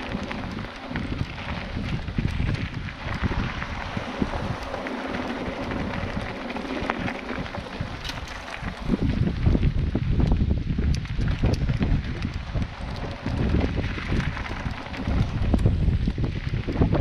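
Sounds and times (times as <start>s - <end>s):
bike tyres crunching on gravel: 0.0s - 17.0s
wind buffeting microphone: 0.0s - 17.0s.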